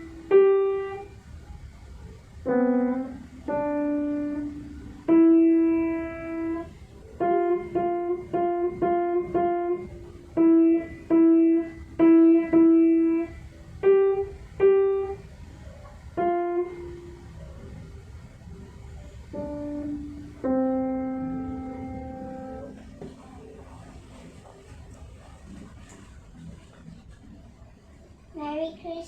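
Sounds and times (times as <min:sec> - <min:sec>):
piano playing simple melody: 0:00.0 - 0:24.2.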